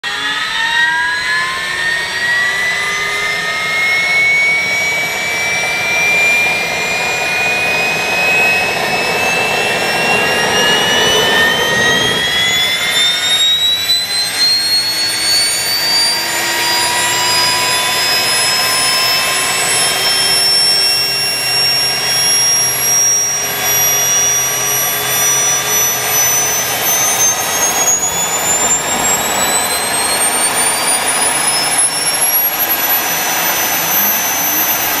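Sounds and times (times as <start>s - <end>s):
gas turbine high whine: 0.0s - 35.0s.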